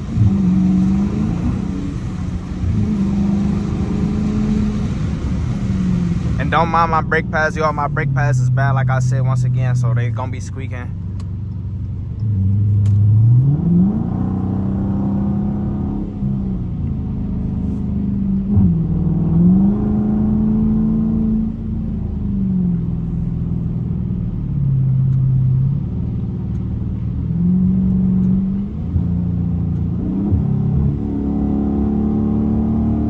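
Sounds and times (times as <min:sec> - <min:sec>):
car engine: 0:00.0 - 0:33.0
low road rumble: 0:00.0 - 0:33.0.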